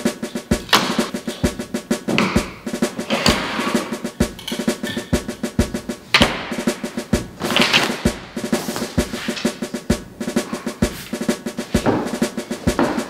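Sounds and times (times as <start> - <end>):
music with fast drum beat: 0.0 - 13.0.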